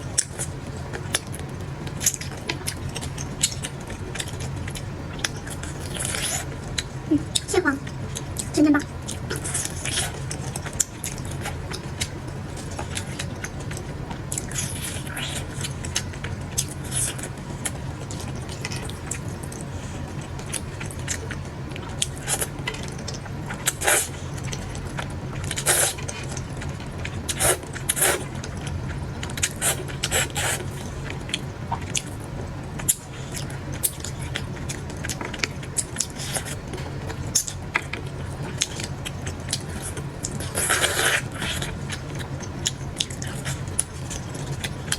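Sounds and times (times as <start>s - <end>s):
steady low hum: 0.0s - 44.9s
chewing: 0.1s - 44.9s.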